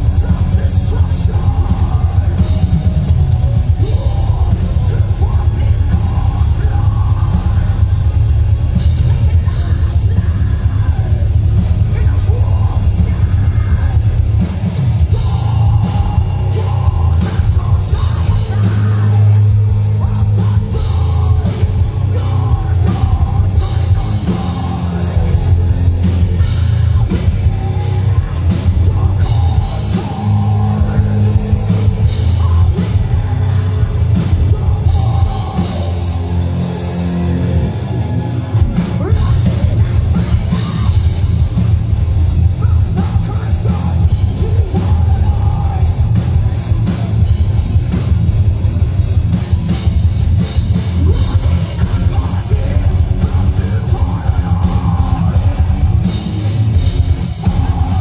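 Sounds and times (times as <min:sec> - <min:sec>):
metal band playing live: 0:00.0 - 0:58.0.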